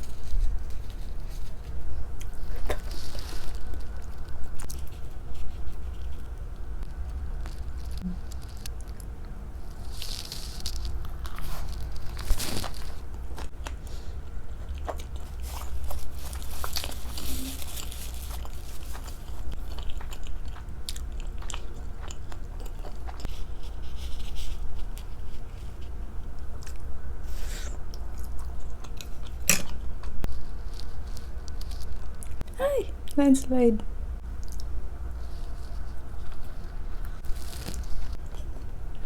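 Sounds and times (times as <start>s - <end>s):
chewing and wet mouth sounds: 0.0s - 33.2s, 34.2s - 39.0s
low steady hum: 0.0s - 39.0s.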